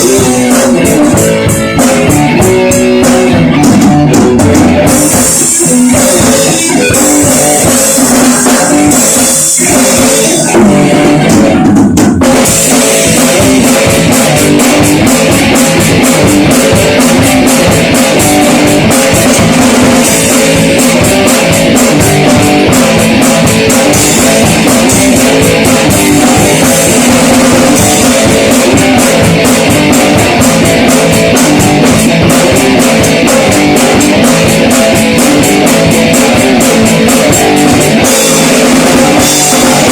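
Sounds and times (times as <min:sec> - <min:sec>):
drum kit: 0:00.0 - 0:39.9
guitars: 0:00.0 - 0:39.9.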